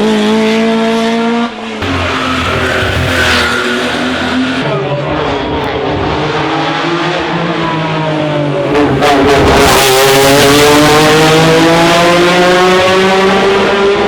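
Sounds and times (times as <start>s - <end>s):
racing car engine accelerating: 0.0s - 14.0s.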